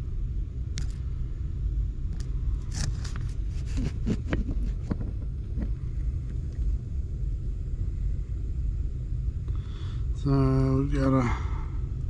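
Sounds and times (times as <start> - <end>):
air handler low rumble: 0.0 - 12.0.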